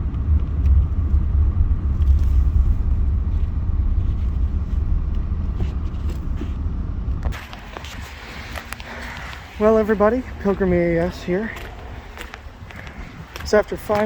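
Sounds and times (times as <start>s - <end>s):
car road rumble: 0.0s - 14.0s.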